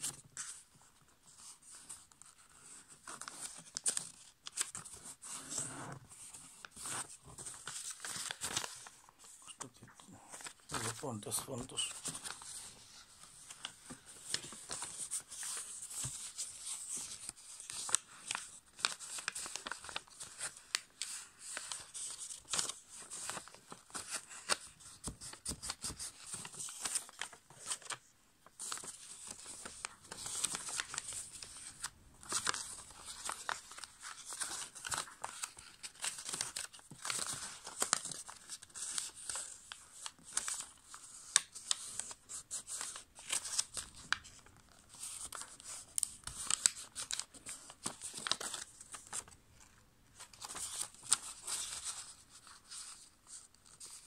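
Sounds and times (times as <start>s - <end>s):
paper rustling and crackling: 0.0s - 54.0s.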